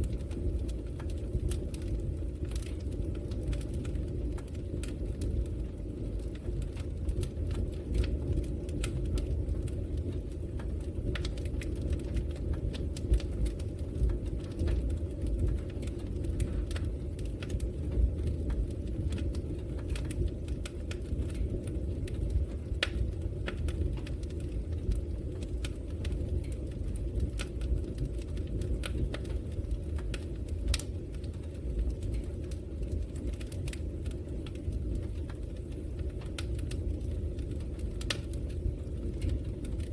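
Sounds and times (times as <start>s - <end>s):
fire crackling and popping: 0.0s - 39.9s
fire rumbling in fireplace: 0.0s - 39.9s.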